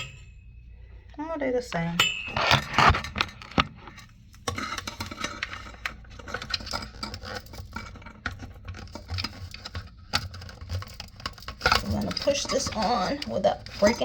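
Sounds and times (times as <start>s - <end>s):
plastic parts rubbing and clicking: 2.3s - 14.0s.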